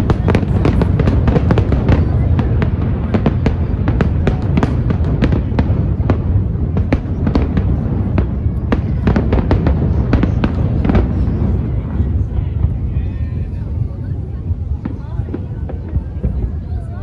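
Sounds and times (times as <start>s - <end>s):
deep rumble of bursting shells: 0.0s - 16.7s
fireworks cracks and bangs: 0.0s - 17.0s.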